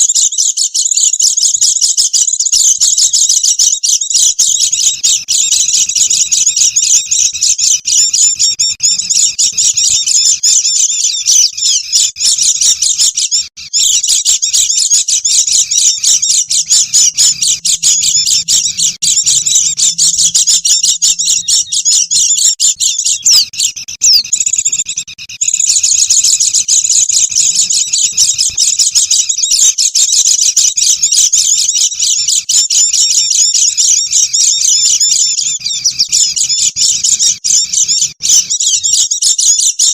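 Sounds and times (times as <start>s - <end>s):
flock of birds twittering: 0.0s - 39.9s.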